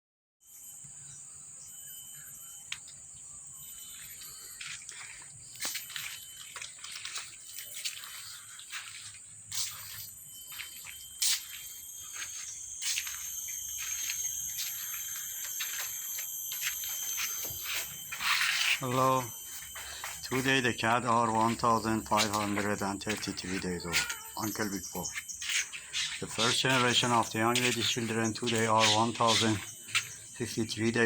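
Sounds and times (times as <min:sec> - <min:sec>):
insect trilling drone: 0:00.5 - 0:31.0
insect clicks and chirps: 0:00.8 - 0:31.0.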